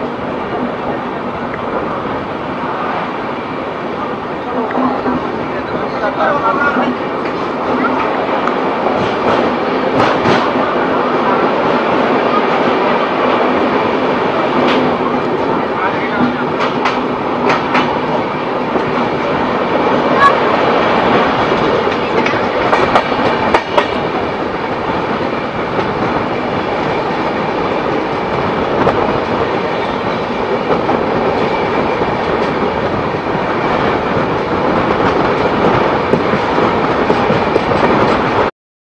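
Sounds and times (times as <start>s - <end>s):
train wheels clickety-clack: 4.6s - 19.3s, 20.2s - 38.5s.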